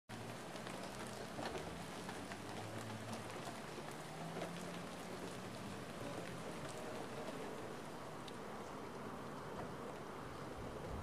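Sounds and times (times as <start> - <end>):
rain falling: 0.1 - 11.0.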